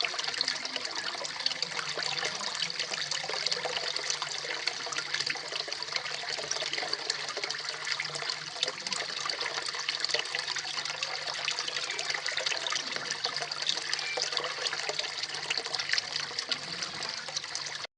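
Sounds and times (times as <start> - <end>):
small waterfall splashing into pond: 0.0 - 17.9.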